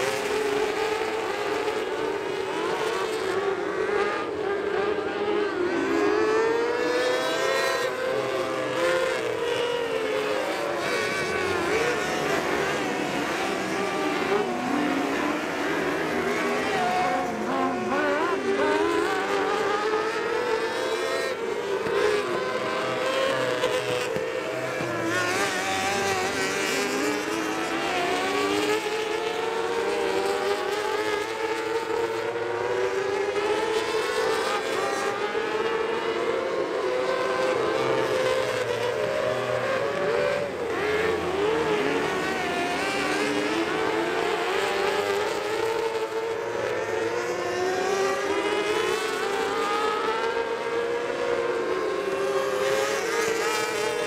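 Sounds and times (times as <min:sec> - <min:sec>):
small racing car engines: 0:00.0 - 0:54.0.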